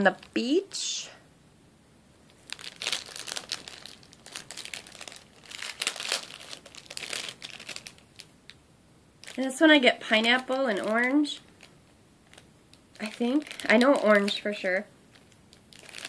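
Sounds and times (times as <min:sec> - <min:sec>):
plastic bag crinkling: 0:02.2 - 0:08.6, 0:09.2 - 0:16.0.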